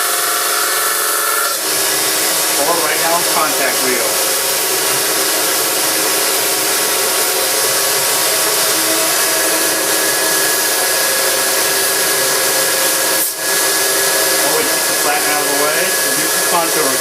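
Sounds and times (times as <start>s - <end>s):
belt grinder grinding hiss: 0.0s - 17.0s.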